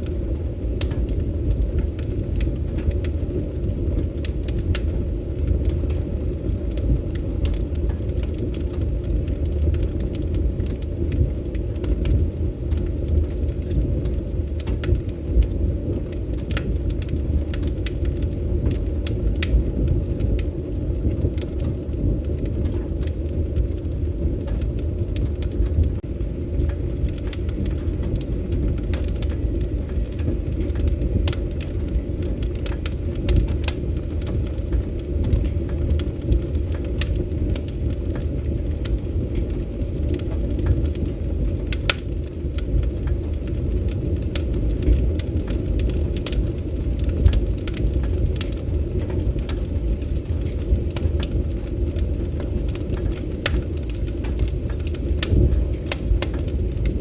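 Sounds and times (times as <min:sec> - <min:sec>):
fire crackling and popping: 0:00.0 - 0:57.0
wood fire rumbling: 0:00.0 - 0:57.0.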